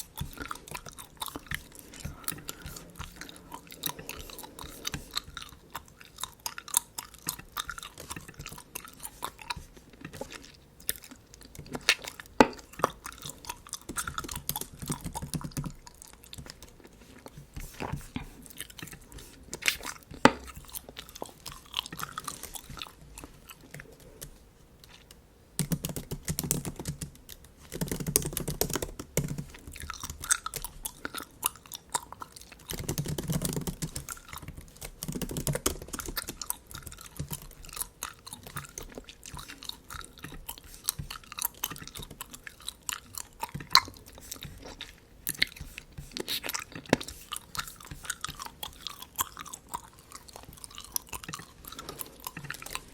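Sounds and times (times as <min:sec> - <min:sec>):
gum chewing: 0:00.0 - 0:52.9.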